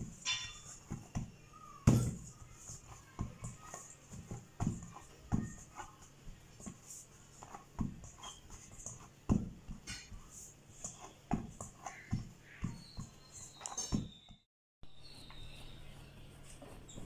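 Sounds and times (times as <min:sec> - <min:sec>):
dough thumping in metal bowl: 0:00.0 - 0:14.2.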